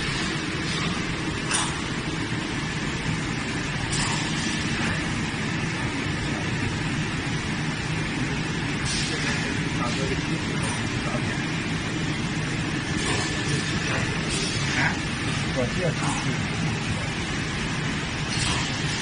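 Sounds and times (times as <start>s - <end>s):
machine mechanical hum: 0.0s - 19.0s.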